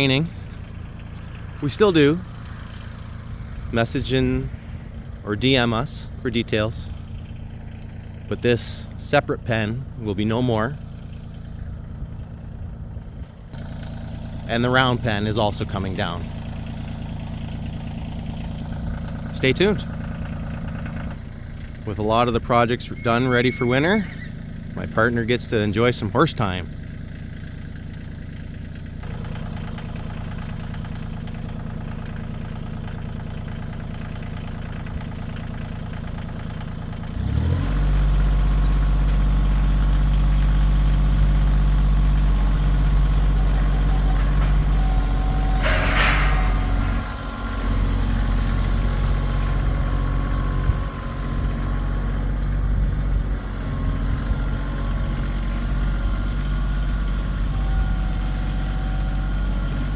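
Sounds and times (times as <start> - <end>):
tractor diesel engine idling and revving: 0.0 - 59.9.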